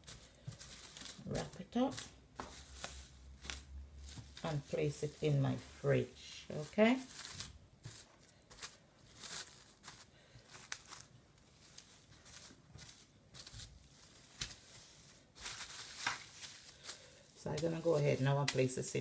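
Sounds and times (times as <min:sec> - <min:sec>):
cling wrap crinkling: 0:00.0 - 0:19.0.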